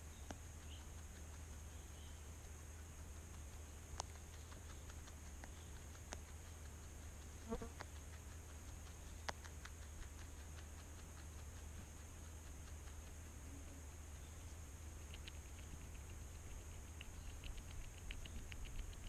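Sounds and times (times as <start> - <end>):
rabbit chewing grass: 0.0 - 19.0.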